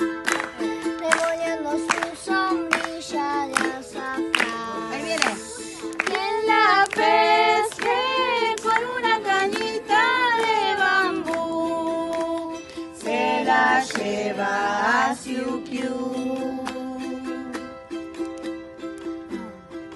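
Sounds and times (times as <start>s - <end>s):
group singing together: 0.0s - 17.5s.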